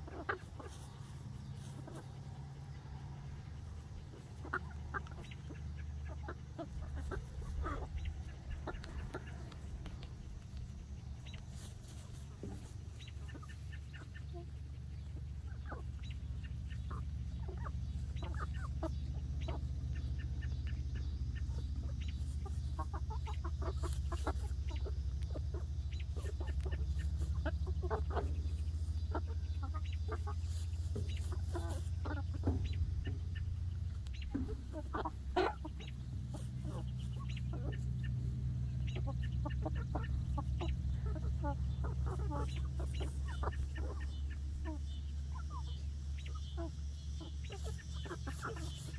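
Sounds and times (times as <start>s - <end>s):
hens clucking: 0.0s - 48.9s
steady low hum: 0.0s - 48.9s.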